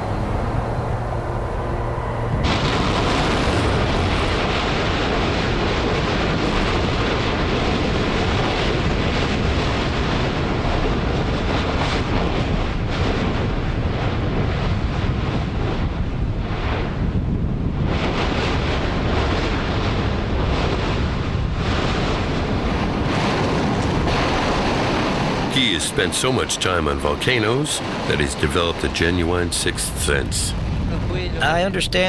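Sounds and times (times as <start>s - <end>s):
volcano rumble: 0.0s - 32.0s
wind buffeting microphone: 0.0s - 32.0s.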